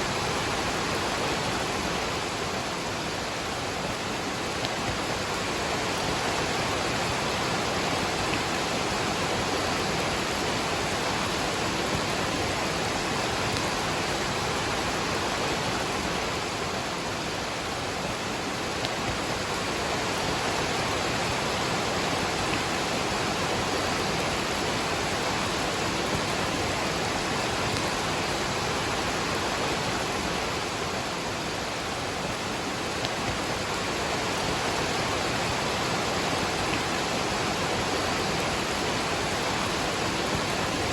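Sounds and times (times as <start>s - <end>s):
falling rain: 0.0s - 40.9s
waterfall rushing: 0.0s - 40.9s.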